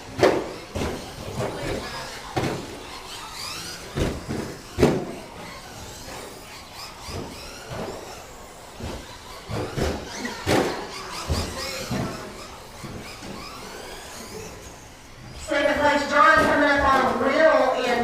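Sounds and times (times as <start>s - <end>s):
high motor whines: 0.0s - 18.0s.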